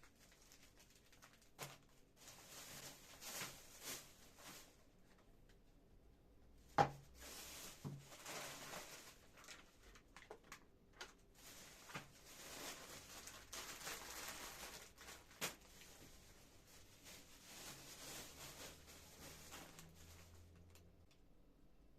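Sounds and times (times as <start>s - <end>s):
soft rustling: 0.1s - 5.3s, 7.1s - 20.8s.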